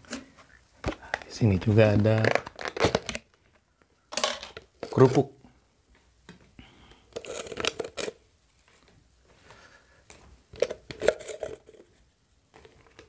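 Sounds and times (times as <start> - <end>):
crackers crackling and rustling: 0.0 - 13.0.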